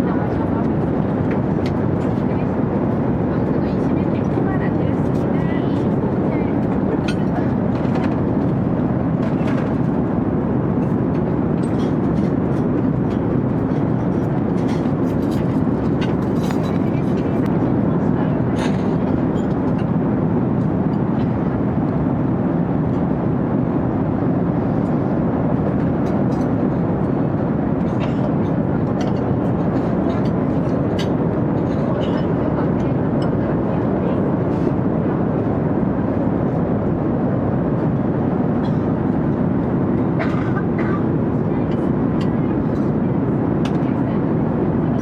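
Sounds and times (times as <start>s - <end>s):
low rumble of machinery: 0.0s - 45.0s.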